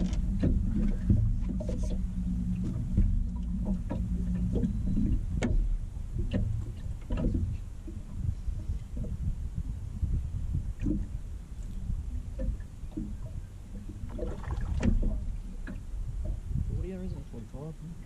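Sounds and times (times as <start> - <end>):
steady low hum: 0.0 - 18.0
water lapping against hull: 0.0 - 18.0
wind buffeting: 0.0 - 18.0.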